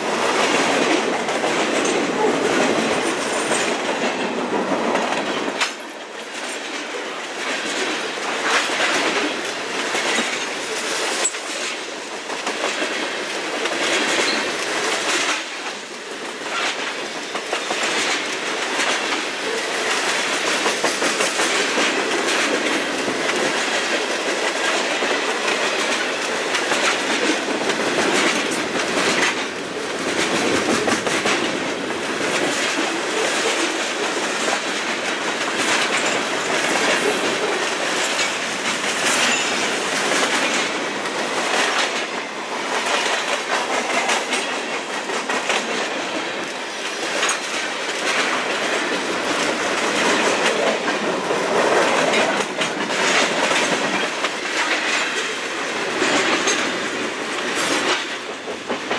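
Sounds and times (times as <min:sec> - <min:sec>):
freight train wheels rumbling: 0:00.0 - 0:58.9
wheels clicking over rail joints: 0:00.0 - 0:58.9.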